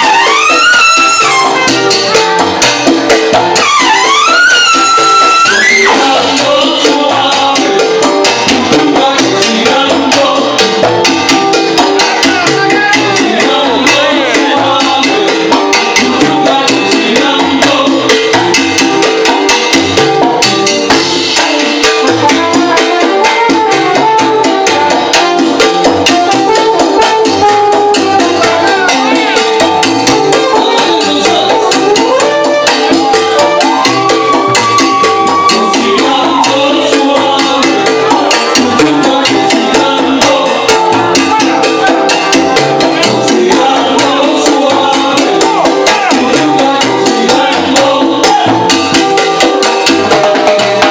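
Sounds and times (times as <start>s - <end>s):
salsa band playing: 0.0s - 50.9s
shakers and drums beat: 0.0s - 50.9s
timbales and congas rhythm: 0.0s - 50.9s.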